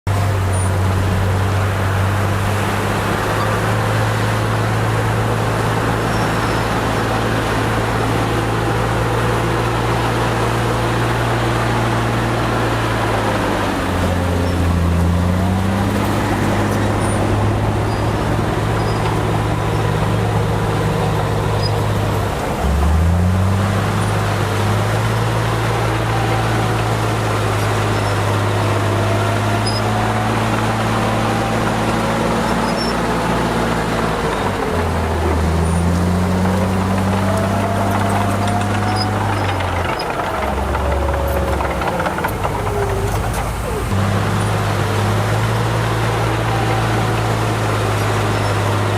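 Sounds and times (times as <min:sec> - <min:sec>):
bulldozer diesel engine running: 0:00.1 - 0:48.9.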